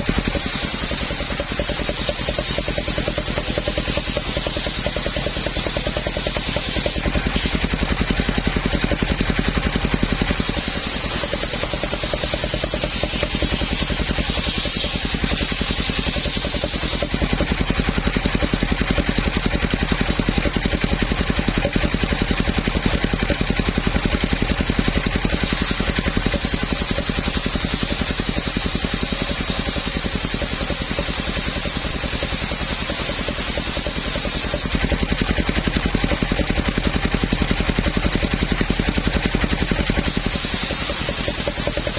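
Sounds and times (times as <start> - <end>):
circular sawmill engine running: 0.0 - 41.9.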